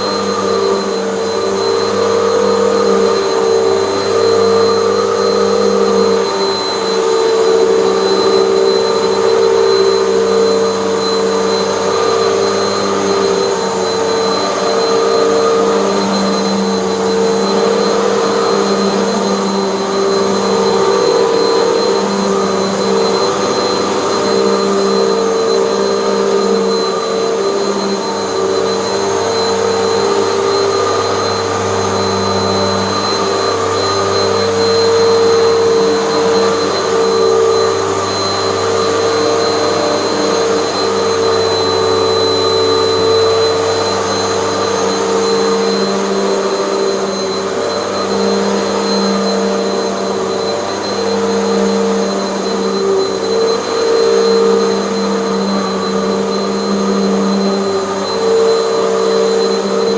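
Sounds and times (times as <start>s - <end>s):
upright vacuum cleaner running: 0.0s - 59.9s.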